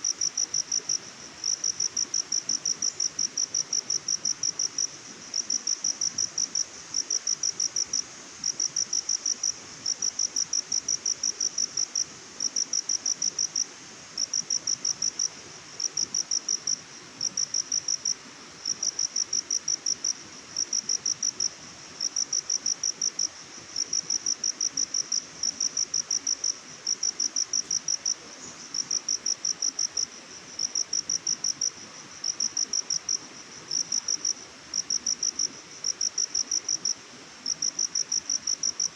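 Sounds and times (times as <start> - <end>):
cricket chirping: 0.0 - 38.9
faint steady hiss: 0.0 - 38.9.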